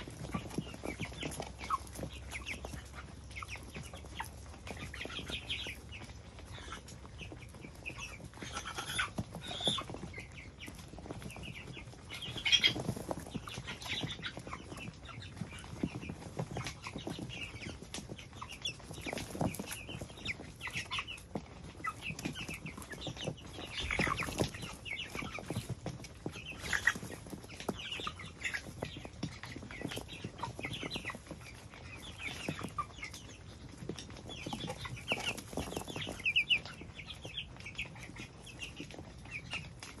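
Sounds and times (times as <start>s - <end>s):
chickens calling: 0.0s - 40.0s.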